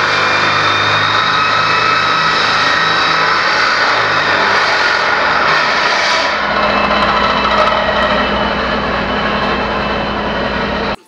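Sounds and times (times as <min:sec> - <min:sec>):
circular saw cutting wood: 0:00.0 - 0:11.0.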